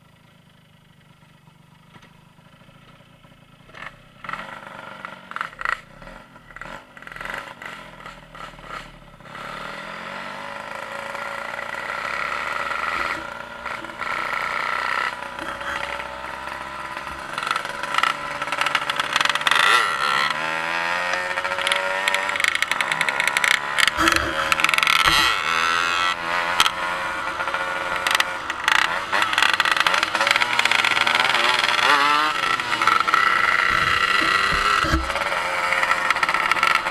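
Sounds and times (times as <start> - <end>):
engine starting and running: 3.6 - 36.9.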